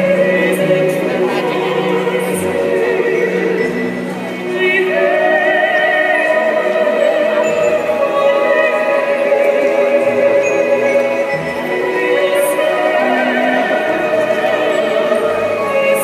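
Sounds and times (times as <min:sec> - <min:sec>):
operatic classical music: 0:00.0 - 0:16.0
singing voice holding long note: 0:00.0 - 0:16.0.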